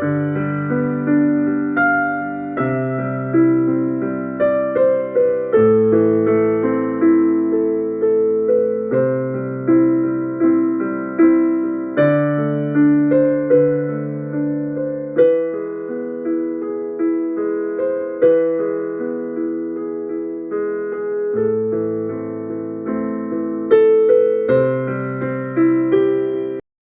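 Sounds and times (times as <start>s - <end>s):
slow electric piano: 0.0s - 26.6s.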